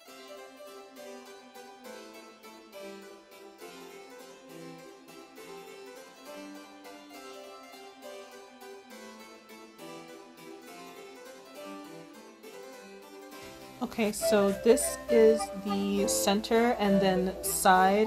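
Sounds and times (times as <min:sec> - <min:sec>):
background instrumental music: 0:00.0 - 0:18.0.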